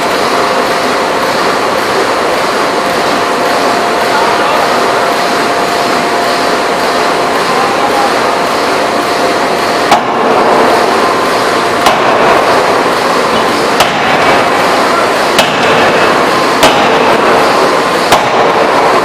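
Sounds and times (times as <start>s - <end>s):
factory noise: 0.0s - 19.0s
forging hammer blows: 0.0s - 19.0s.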